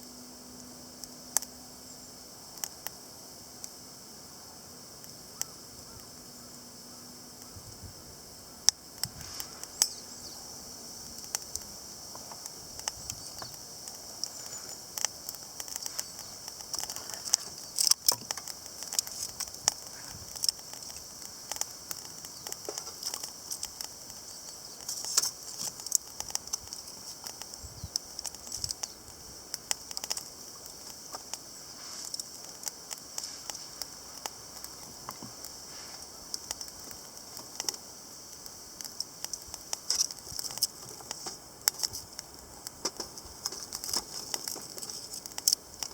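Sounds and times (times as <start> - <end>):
fire hissing: 0.0 - 45.9
campfire crackling and popping: 0.6 - 45.9.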